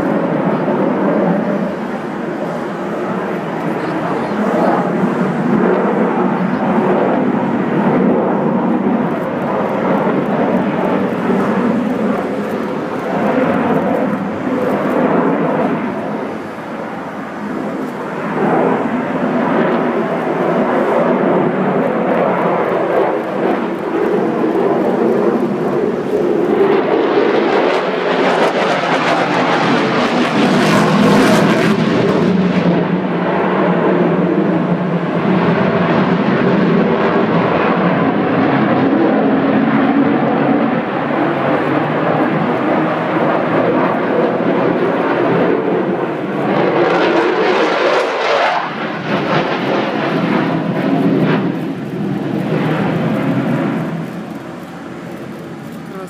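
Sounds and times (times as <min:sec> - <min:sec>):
fighter jet engine noise: 0:00.0 - 0:56.0.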